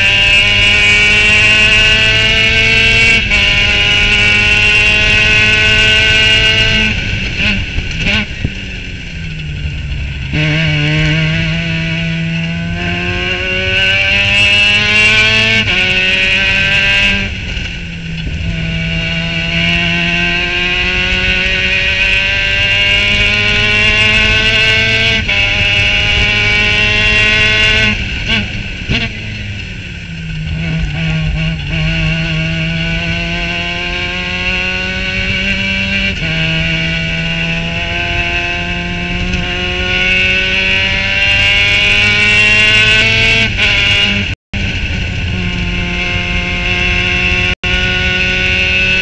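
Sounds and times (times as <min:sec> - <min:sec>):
race car engine at full throttle: 0:00.0 - 0:49.0.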